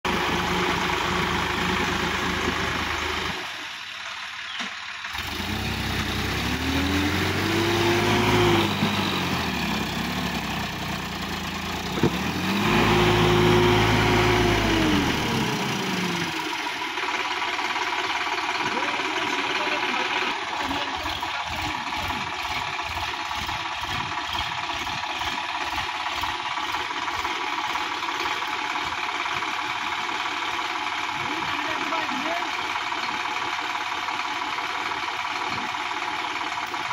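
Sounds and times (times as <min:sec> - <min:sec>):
tractor diesel engine revving: 0:00.0 - 0:36.9.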